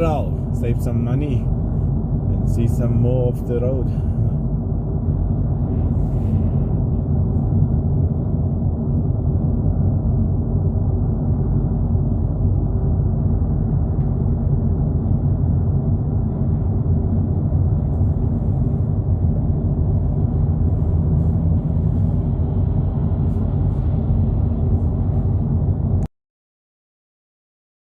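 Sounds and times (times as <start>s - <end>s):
car engine and tyre noise: 0.0s - 26.1s.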